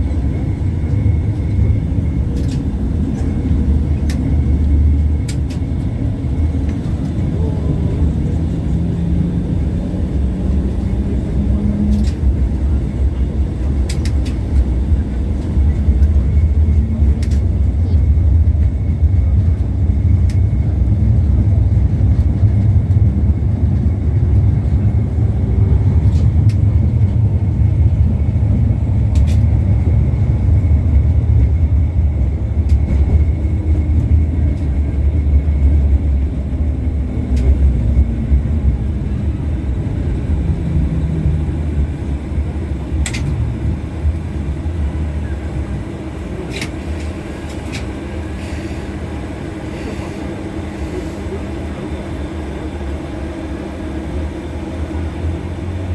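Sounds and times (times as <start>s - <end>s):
trolleybus running rumble: 0.0s - 55.9s.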